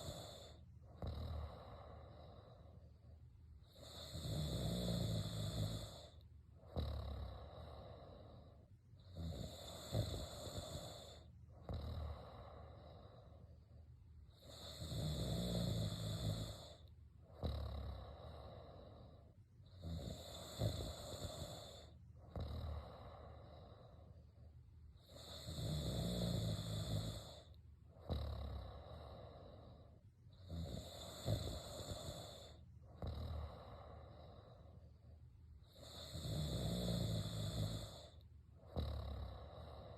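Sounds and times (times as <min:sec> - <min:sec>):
person snoring: 0:00.0 - 0:03.0, 0:03.6 - 0:13.5, 0:14.3 - 0:24.2, 0:25.0 - 0:34.8, 0:35.6 - 0:39.9.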